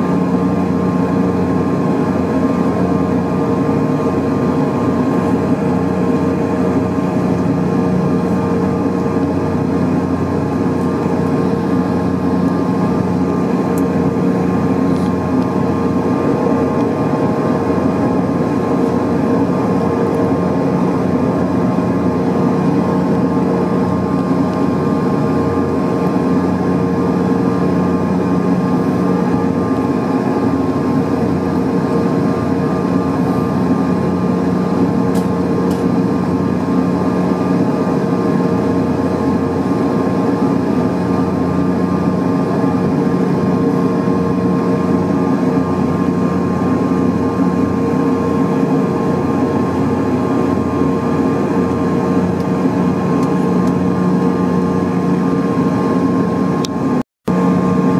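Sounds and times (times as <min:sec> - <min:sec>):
jet engines humming in cabin: 0:00.0 - 0:57.9.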